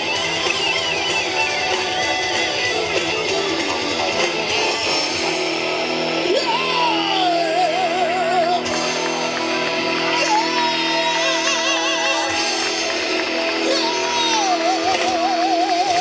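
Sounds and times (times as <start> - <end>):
heavy metal band playing live: 0.0 - 16.0
long high notes with vibrato: 0.0 - 16.0.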